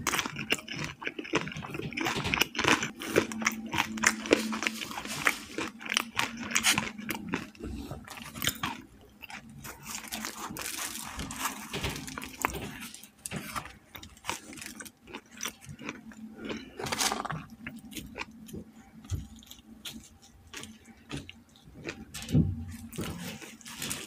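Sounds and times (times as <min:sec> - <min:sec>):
chewing crispy fried chicken: 0:00.0 - 0:24.0.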